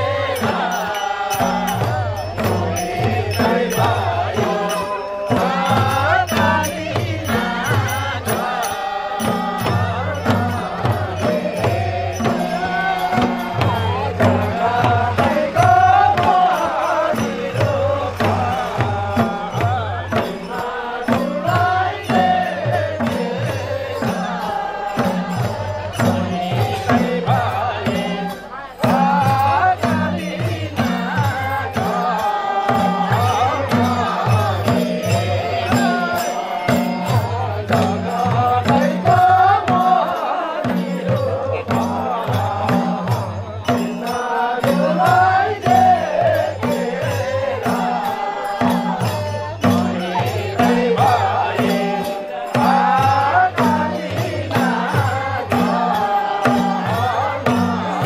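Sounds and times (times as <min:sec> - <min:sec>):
group singing a folk song: 0:00.0 - 0:58.0
hand drums beating: 0:00.0 - 0:58.0.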